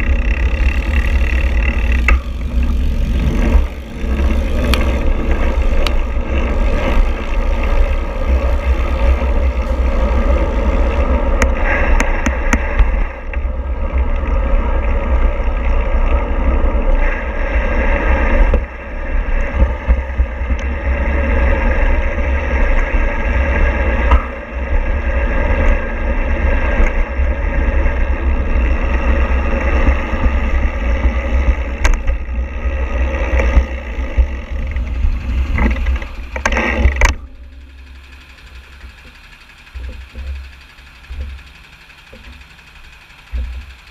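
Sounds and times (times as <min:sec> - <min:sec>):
road noise: 0:00.0 - 0:43.9
vehicle engine rumble: 0:00.0 - 0:43.9.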